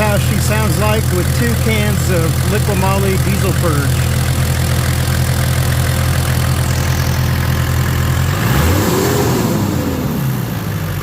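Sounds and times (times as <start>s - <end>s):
diesel engine idling: 0.0s - 11.0s
engine revving: 0.0s - 11.0s.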